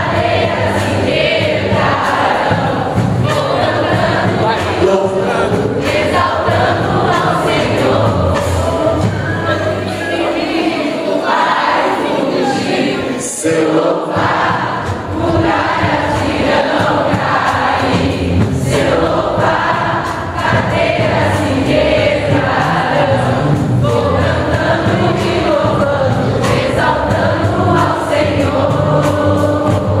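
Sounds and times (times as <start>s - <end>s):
congregation singing worship song: 0.0s - 30.0s.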